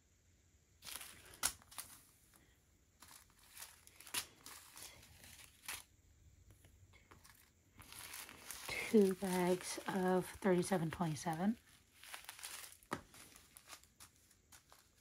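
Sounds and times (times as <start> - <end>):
plastic bags crinkling: 0.8 - 6.0, 6.6 - 15.0.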